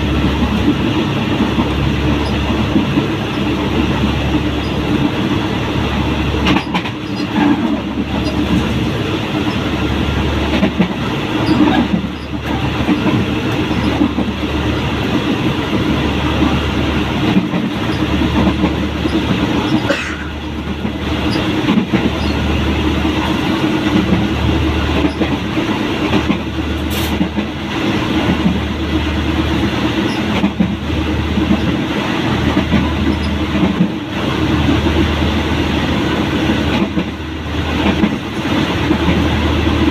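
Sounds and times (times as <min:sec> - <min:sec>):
locomotive engine drone: 0:00.0 - 0:39.9
train running noise: 0:00.0 - 0:39.9.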